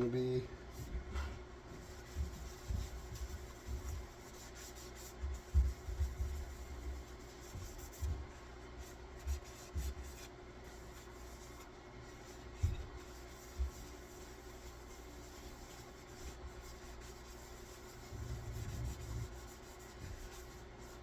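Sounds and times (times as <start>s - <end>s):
light rubbing and scraping: 0.0s - 21.0s
steady hum: 0.0s - 21.0s.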